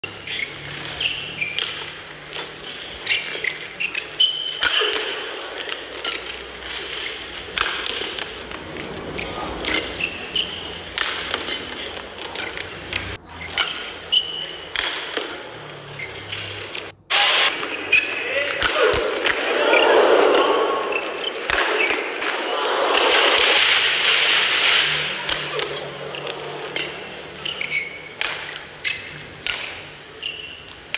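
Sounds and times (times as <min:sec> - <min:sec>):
shoes squeaking on court: 0:00.0 - 0:18.6, 0:19.7 - 0:22.3, 0:23.2 - 0:30.9
rackets hitting shuttlecock: 0:00.0 - 0:30.9.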